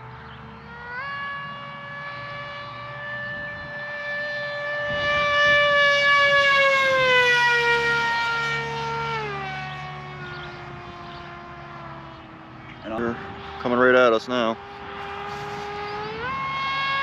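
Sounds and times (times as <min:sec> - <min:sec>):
model plane electric motor whining: 0:00.0 - 0:17.0.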